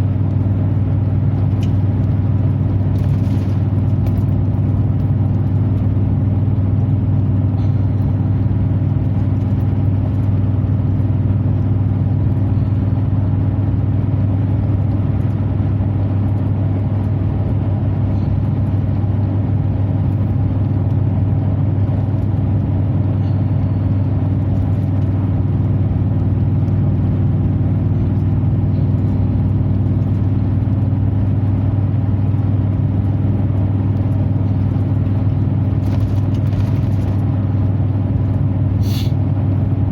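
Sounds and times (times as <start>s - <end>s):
low exhaust drone: 0.0s - 39.9s.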